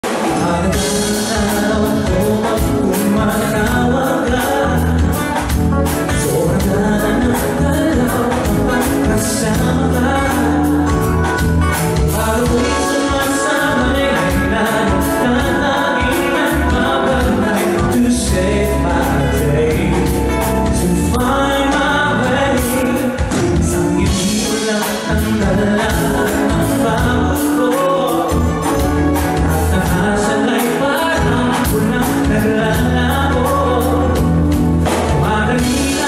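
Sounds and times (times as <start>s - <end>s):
live band playing: 0.0s - 36.0s
man singing a pop ballad: 0.0s - 36.0s.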